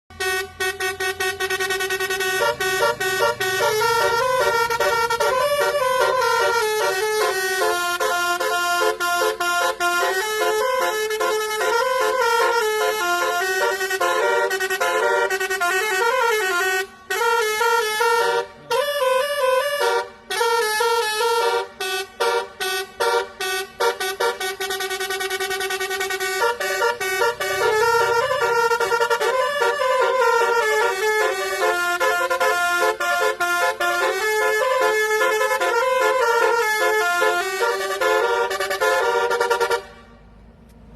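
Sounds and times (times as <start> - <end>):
bus melody horn playing a tune: 0.1 - 40.3.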